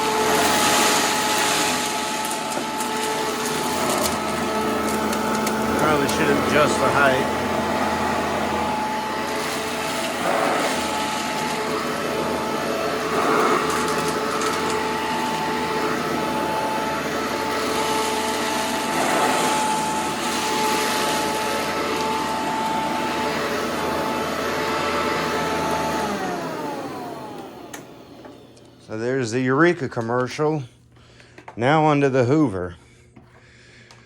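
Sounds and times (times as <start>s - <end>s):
upright vacuum cleaner running: 0.0s - 30.5s.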